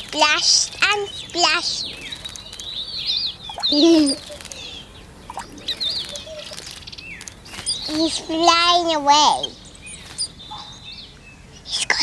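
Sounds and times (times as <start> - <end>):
wings fluttering: 0.0 - 10.7
small birds chirping: 0.0 - 12.0.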